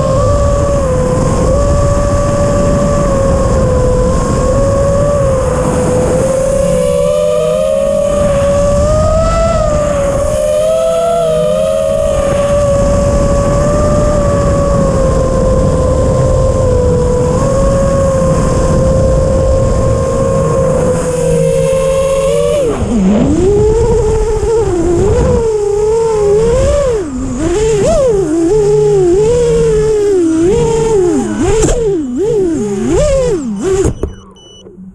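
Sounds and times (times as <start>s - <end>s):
quadcopter motors whining: 0.0s - 34.9s.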